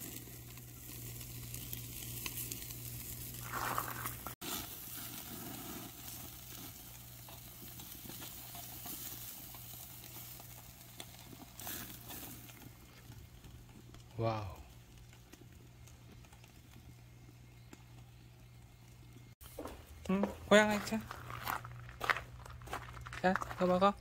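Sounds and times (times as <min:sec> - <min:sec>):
ribs sizzling on a grill: 0:00.0 - 0:19.4.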